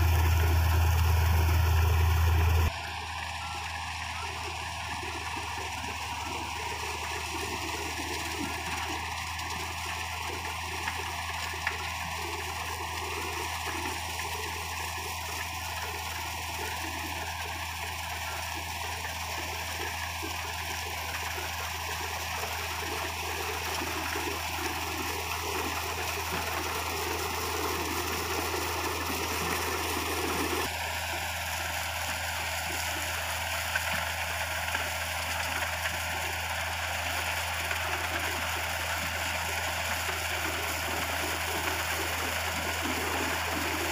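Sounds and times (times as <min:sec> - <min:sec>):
combine harvester running: 0:00.0 - 0:43.9
low engine hum: 0:00.0 - 0:43.9.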